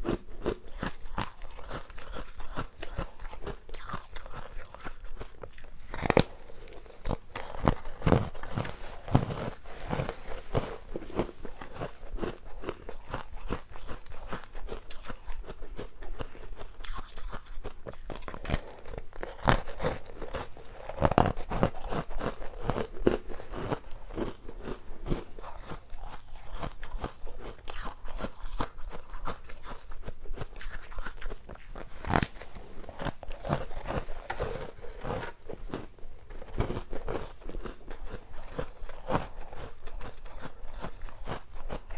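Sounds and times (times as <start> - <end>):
ice crunching while chewed: 0.0 - 41.9.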